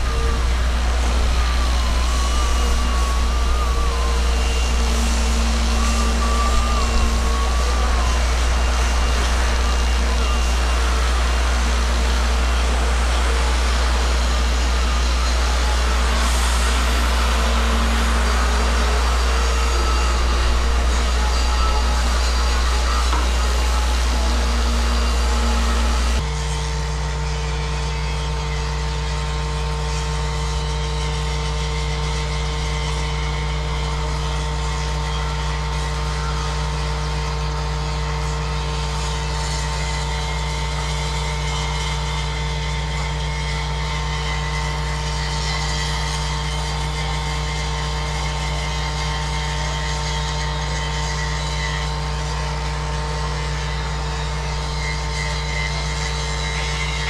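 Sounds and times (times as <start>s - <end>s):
machine drone: 0.0s - 57.0s.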